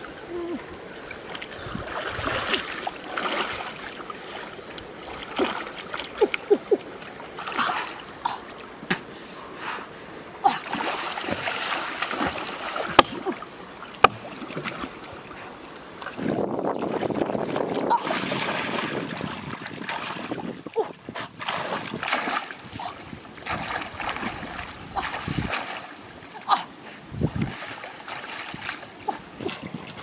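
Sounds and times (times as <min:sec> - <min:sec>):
water sloshing and splashing: 0:00.0 - 0:09.4, 0:10.4 - 0:30.0.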